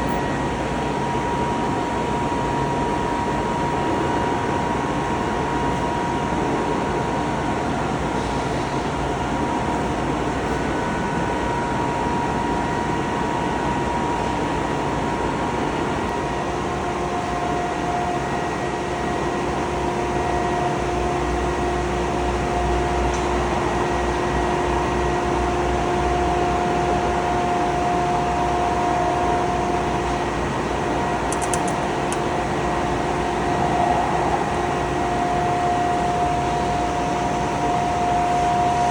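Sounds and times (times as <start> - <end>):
cutting machine hum and whine: 0.0 - 38.9.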